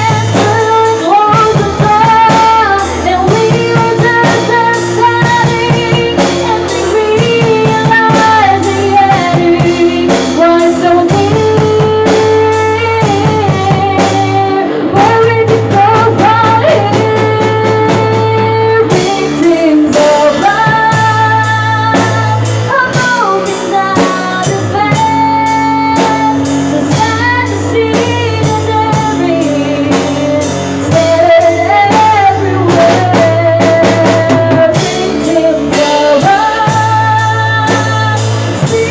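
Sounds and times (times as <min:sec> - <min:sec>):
live rock band playing: 0:00.0 - 0:38.9
person singing: 0:00.0 - 0:38.9.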